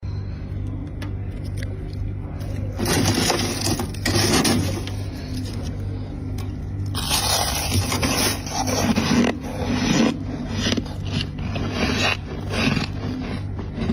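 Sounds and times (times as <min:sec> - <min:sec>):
steady low hum: 0:00.0 - 0:13.9
frost crunching when chewed: 0:01.3 - 0:13.9.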